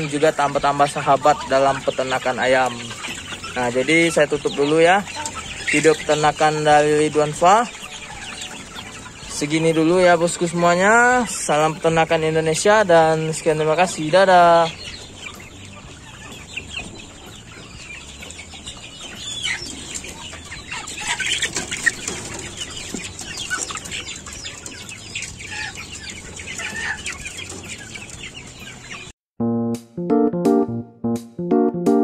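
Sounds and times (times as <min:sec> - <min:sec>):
chickens clucking: 0:00.0 - 0:29.2.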